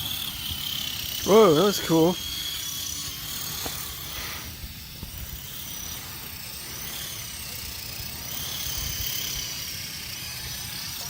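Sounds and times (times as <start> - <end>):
helicopter motor whine: 0.0 - 11.0.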